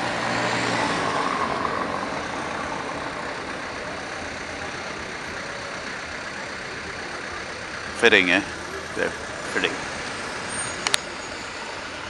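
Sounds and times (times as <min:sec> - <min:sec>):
car engines: 0:00.0 - 0:12.0
tyres on paving: 0:00.0 - 0:12.0.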